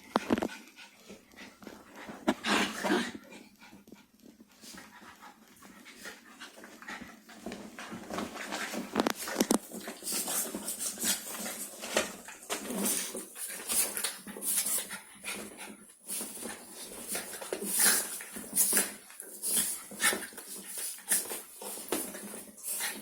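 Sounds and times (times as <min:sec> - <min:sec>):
dogs panting: 0:00.0 - 0:08.9, 0:09.6 - 0:23.0
dogs scuffling: 0:00.1 - 0:23.0.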